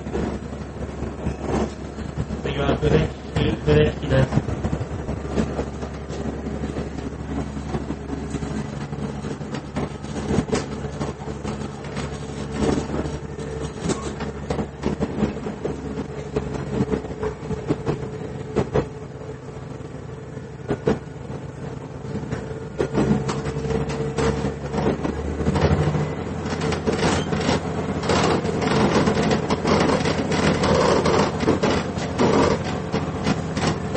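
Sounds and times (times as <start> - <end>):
wheels knocking over rail joints: 0.0 - 19.9, 20.6 - 33.9
railcar interior drone: 0.0 - 33.9.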